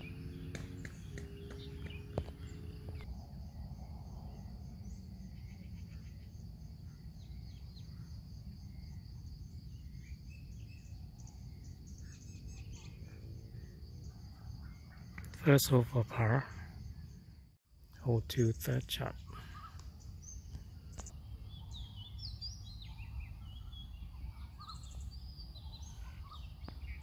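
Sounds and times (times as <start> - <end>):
bird chirps: 0.0 - 17.2, 18.0 - 27.0
high insect drone: 0.0 - 26.9.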